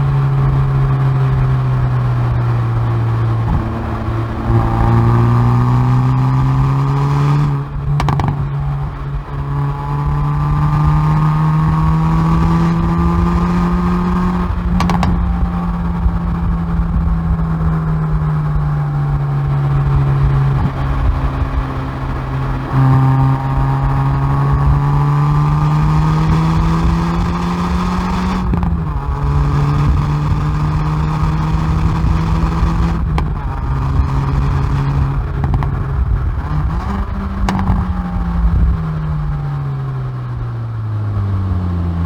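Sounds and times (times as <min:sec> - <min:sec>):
car engine exhaust pulling hard: 0:00.0 - 0:42.0.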